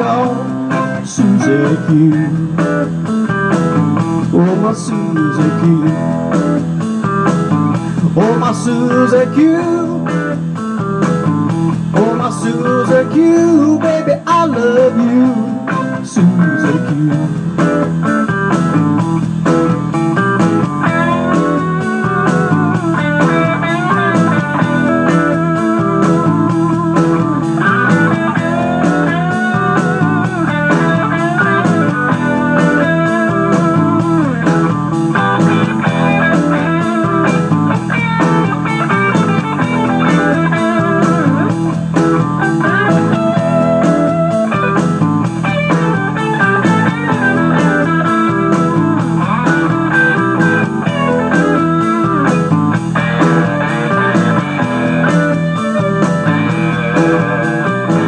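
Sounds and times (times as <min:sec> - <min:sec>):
drum beat: 0:00.0 - 0:58.0
electric guitar lead: 0:00.0 - 0:58.0.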